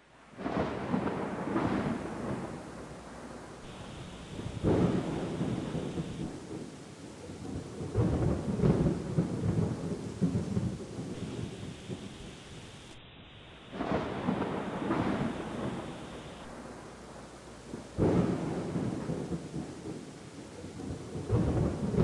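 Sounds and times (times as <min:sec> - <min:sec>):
rain hissing: 0:00.0 - 0:22.0
thunder rumbling: 0:00.3 - 0:22.0.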